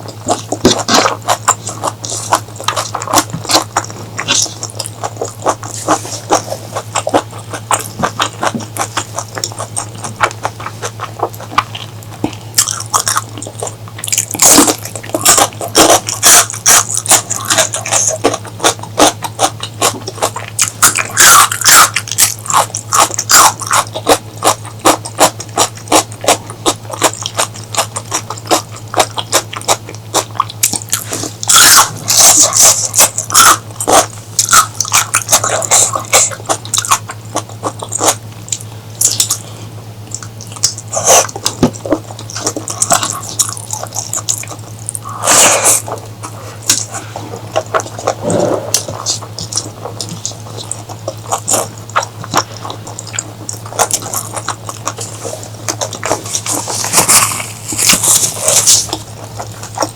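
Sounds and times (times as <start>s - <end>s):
person chewing with wet mouth sounds: 0.0s - 59.9s
steady low hum: 0.0s - 59.9s.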